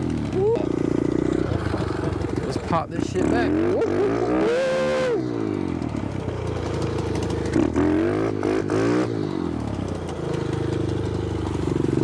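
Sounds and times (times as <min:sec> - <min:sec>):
small motorbike engine revving: 0:00.0 - 0:12.0.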